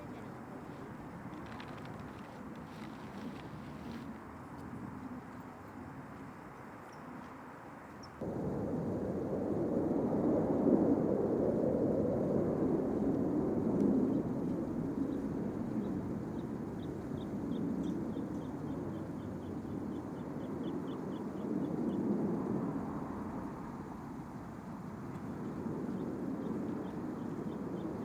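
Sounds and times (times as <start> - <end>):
jet rumble: 0.0 - 28.0.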